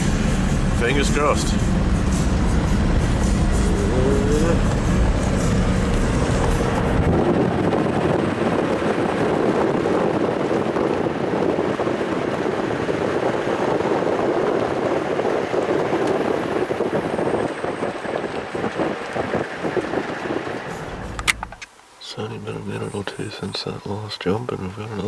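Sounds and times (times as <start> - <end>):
vehicle engine running: 0.0 - 21.6
wind and road noise: 0.0 - 25.0.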